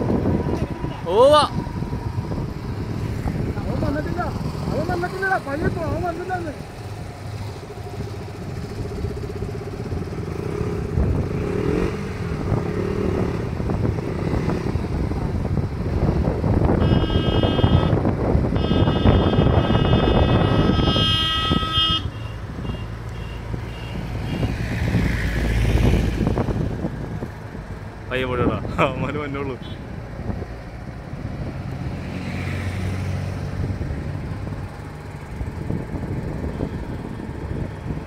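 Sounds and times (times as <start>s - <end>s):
wind noise: 0.0s - 6.2s, 6.8s - 38.0s
motorcycle engine rumble: 0.0s - 38.0s.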